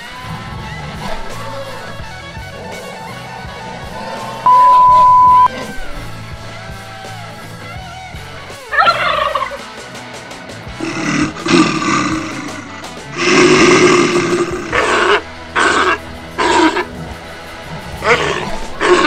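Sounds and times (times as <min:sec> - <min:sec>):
elephant trumpeting: 0:00.0 - 0:06.2, 0:08.7 - 0:09.6, 0:10.7 - 0:19.0.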